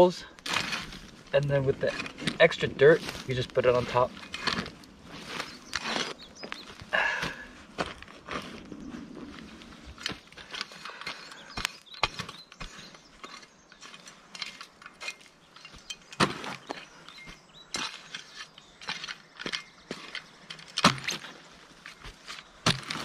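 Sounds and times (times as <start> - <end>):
dirt and gravel scraping: 0.0 - 23.0.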